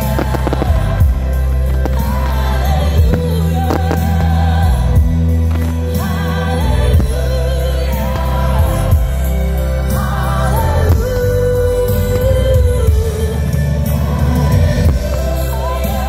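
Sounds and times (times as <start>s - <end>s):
heavy bass: 0.0s - 16.0s
song with sung vocals: 0.0s - 16.0s.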